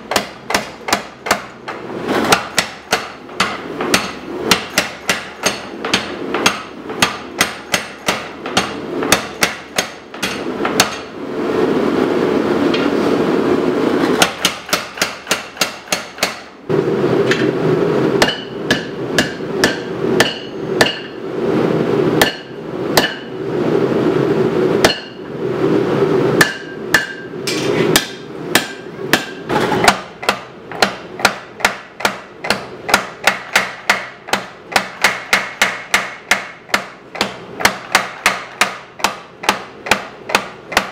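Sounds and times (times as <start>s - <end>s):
steady machine noise: 0.0s - 33.3s.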